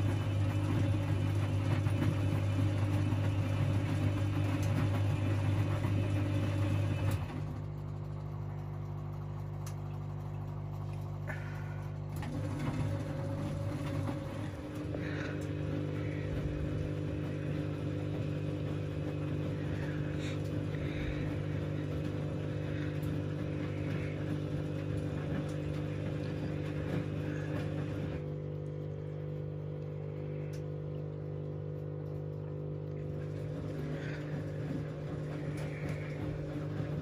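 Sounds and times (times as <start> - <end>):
washing machine drum churning water: 0.0 - 37.0
washing machine motor hum: 0.0 - 37.0.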